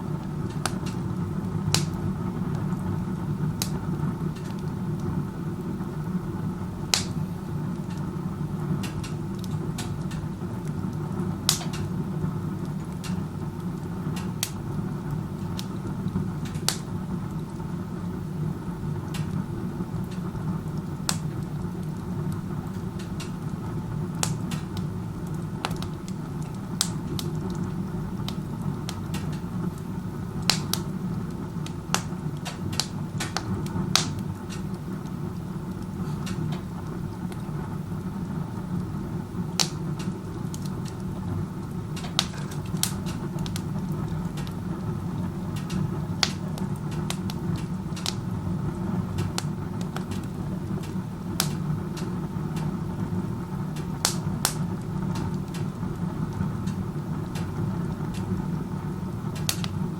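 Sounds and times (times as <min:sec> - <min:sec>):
burning wood popping and crackling: 0:00.0 - 0:59.9
low rumble of fire draft: 0:00.0 - 0:59.9.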